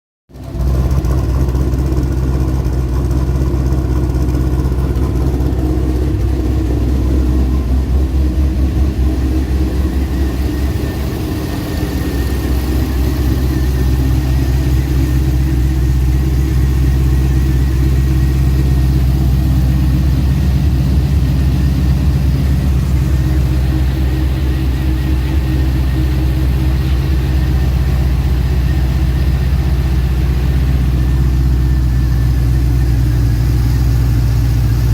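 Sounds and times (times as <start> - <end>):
car engine idling: 0.3 - 34.9.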